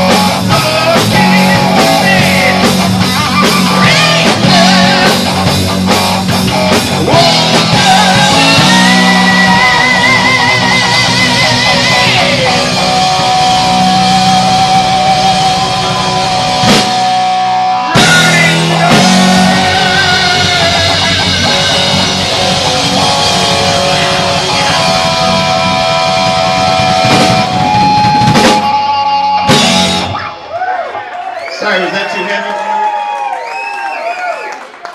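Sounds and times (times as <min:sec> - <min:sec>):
electric guitar lead notes: 0:00.0 - 0:30.7
heavy metal band playing: 0:00.0 - 0:32.4.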